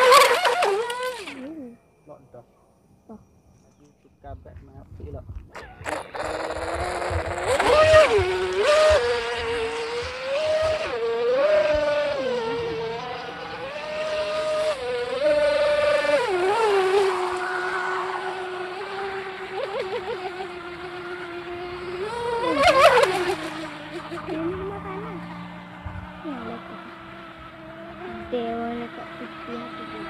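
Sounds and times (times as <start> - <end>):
electric motor whining: 0.0 - 1.8, 5.4 - 30.0.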